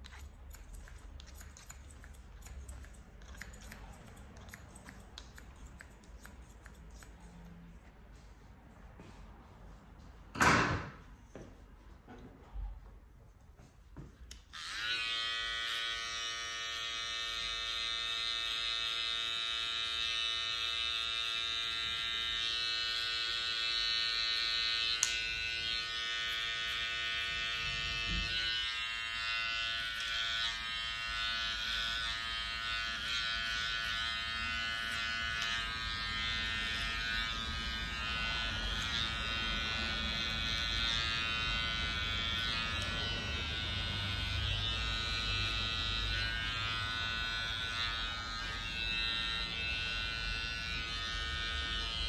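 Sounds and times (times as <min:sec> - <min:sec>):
electric clipper buzzing: 0:00.0 - 0:07.1, 0:14.3 - 0:52.0.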